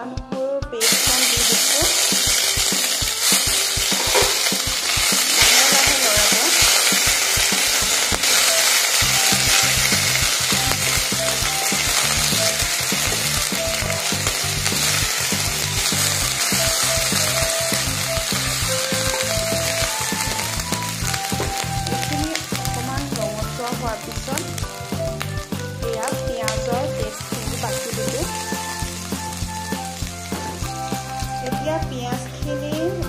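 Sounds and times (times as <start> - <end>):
paste sizzling in hot oil: 0.8 - 31.8
spatula scraping and tapping pan: 1.4 - 30.8.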